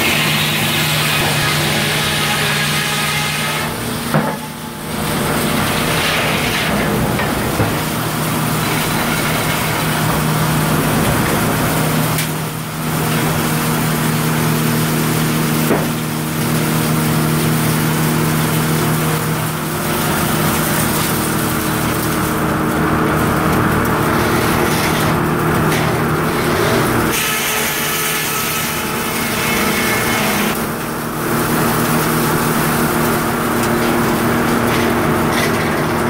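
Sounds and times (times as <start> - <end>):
constant mechanical hum: 0.0 - 36.0
sawmill blade spinning: 0.0 - 36.0.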